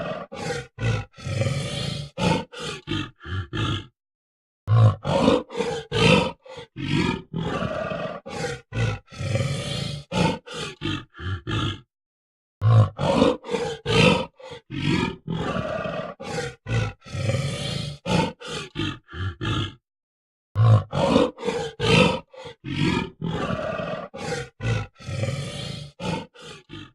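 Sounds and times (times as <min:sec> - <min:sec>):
gorilla grunting and roaring: 0:00.0 - 0:04.0, 0:04.7 - 0:11.9, 0:12.6 - 0:19.8, 0:20.6 - 0:26.9.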